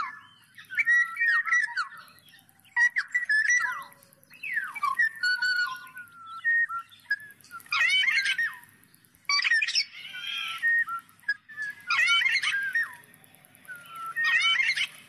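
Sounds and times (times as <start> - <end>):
bird singing fluty whistles: 0.0 - 15.0.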